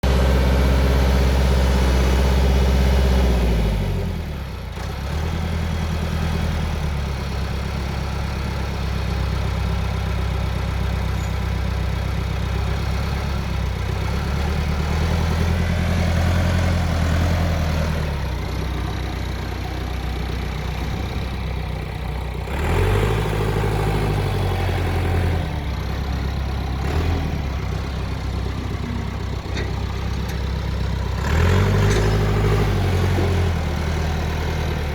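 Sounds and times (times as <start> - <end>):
backhoe diesel engine revving: 0.0 - 34.9.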